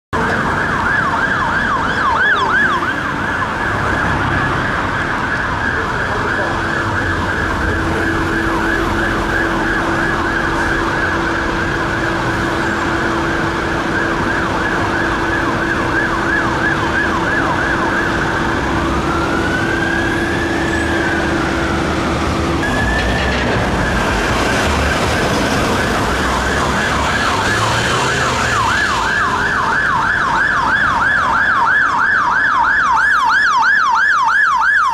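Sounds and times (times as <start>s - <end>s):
road traffic: 0.1s - 34.9s
fire truck siren yelp and wail: 0.2s - 34.9s.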